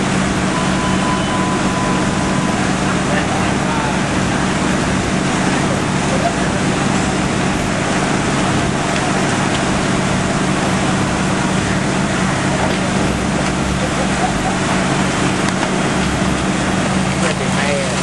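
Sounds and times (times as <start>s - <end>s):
fire engine running: 0.0s - 18.0s.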